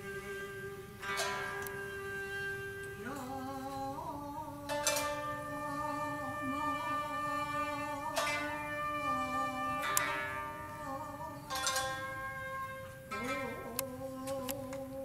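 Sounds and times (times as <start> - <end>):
plucked string instruments: 0.0 - 15.0
wavering sung notes: 0.0 - 15.0.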